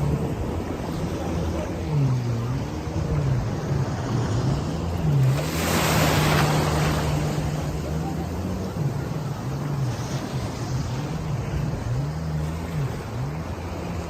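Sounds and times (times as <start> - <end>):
water noise: 0.0 - 14.0
watercraft engine humming: 0.0 - 14.0
wind: 0.0 - 14.0.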